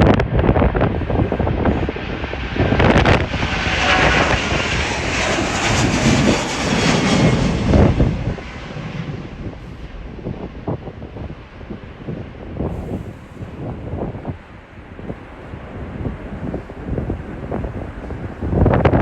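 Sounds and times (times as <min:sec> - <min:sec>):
jet engines roaring: 0:00.0 - 0:19.0
wind buffeting microphone: 0:00.0 - 0:19.0.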